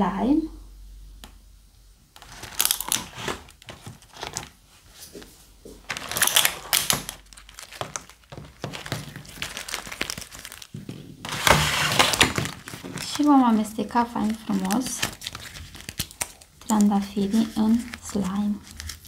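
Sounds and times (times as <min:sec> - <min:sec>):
plastic tray crinkling: 0:02.2 - 0:19.0.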